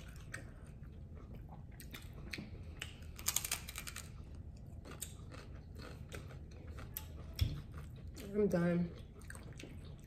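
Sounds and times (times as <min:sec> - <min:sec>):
chewing and crunching taco: 0:00.0 - 0:10.0.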